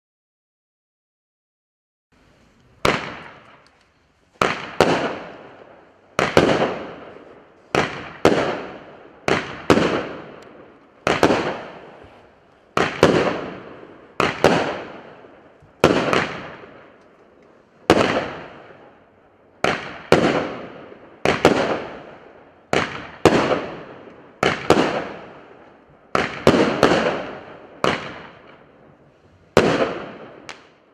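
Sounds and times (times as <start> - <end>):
firework bangs: 2.5 - 19.0, 19.6 - 30.9.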